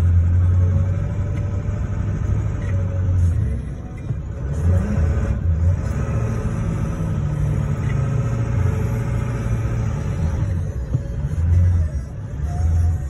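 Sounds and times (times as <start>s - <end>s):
engine rumble inside vehicle: 0.0s - 13.0s.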